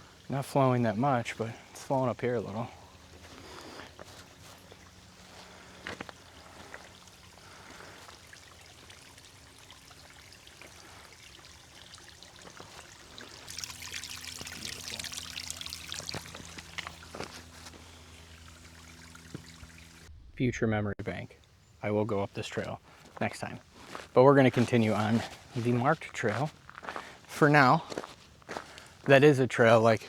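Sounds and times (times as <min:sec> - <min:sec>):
small stream trickling: 0:00.0 - 0:20.1, 0:21.4 - 0:30.0.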